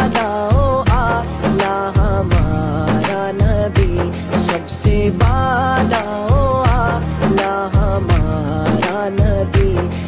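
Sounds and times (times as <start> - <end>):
wavering vocal melody: 0.0 - 10.0
drum beat: 0.1 - 9.9.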